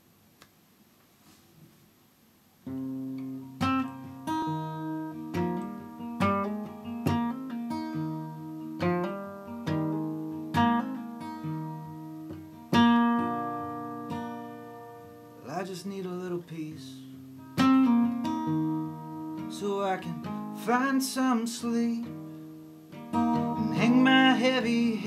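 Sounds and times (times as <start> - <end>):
acoustic guitar chords: 2.6 - 25.0.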